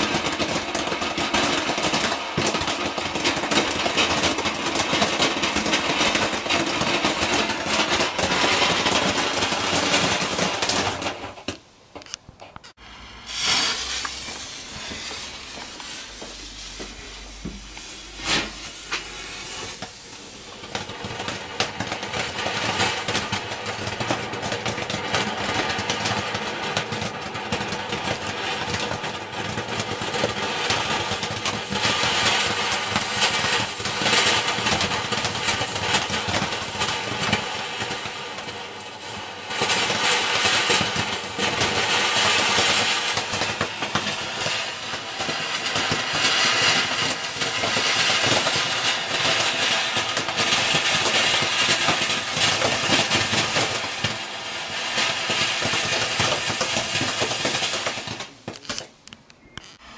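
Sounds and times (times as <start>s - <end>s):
firework burst: 0.0s - 11.6s, 12.8s - 58.9s, 59.6s - 59.9s
sharp firework crack: 0.0s - 11.6s, 12.7s - 59.0s, 59.6s - 59.9s
firework fountain hissing and crackling: 0.0s - 59.9s.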